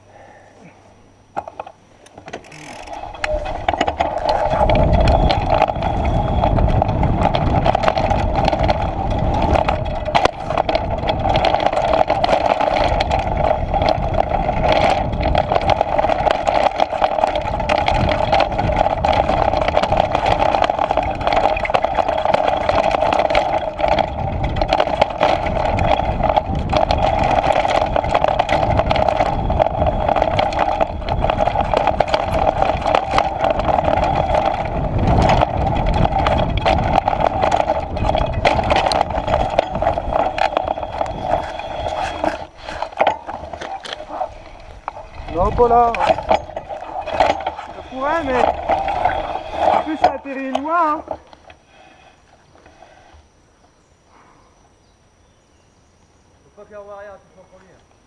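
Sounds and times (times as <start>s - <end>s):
bike rattling: 1.3s - 53.1s
tyres rumbling over dirt: 2.2s - 52.9s.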